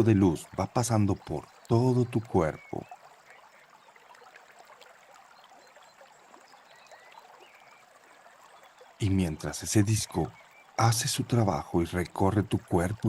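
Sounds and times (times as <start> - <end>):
faint babbling brook: 0.0 - 13.0
soft bird chirps: 0.0 - 13.0.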